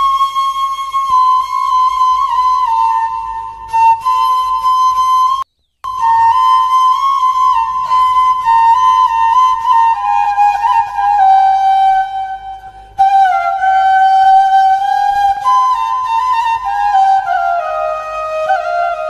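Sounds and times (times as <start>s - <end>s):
solo flute melody: 0.0s - 19.0s.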